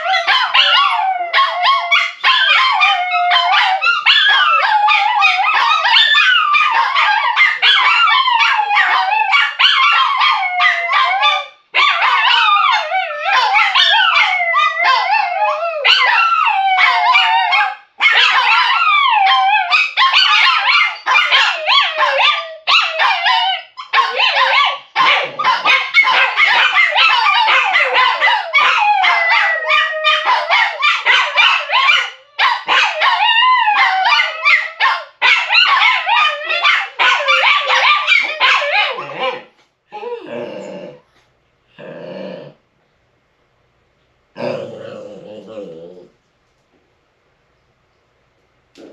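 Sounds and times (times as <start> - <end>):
puppies barking and yipping: 0.0 - 39.6
puppies howling: 0.0 - 41.0.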